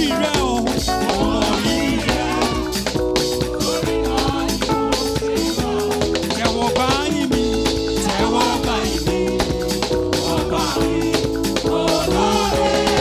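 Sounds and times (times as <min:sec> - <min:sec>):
upbeat gospel praise music: 0:00.0 - 0:13.0.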